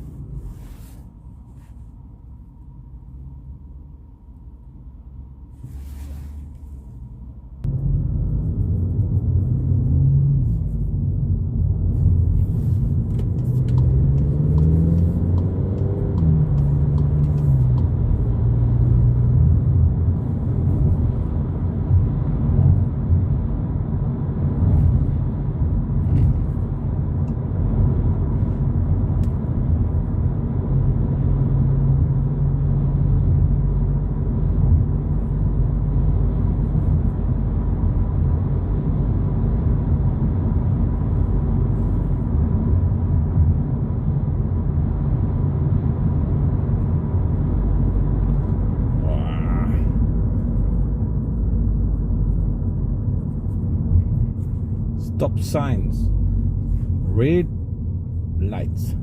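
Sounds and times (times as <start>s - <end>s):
road rumble: 0.0s - 59.0s
car engine accelerating: 7.6s - 59.0s.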